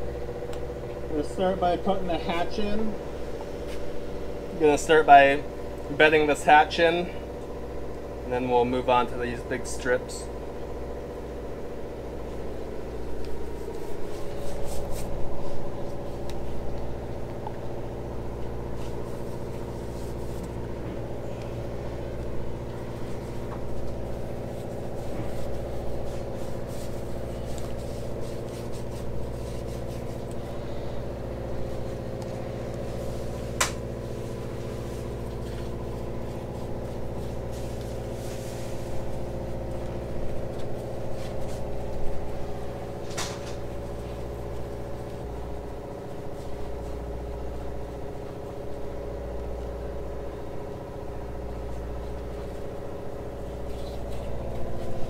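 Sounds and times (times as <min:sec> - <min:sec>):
shop machinery humming: 0:00.0 - 0:55.0.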